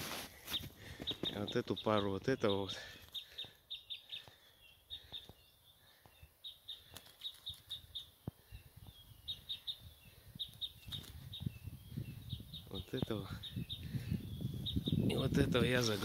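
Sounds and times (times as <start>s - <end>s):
songbird chirping: 0.3s - 16.0s.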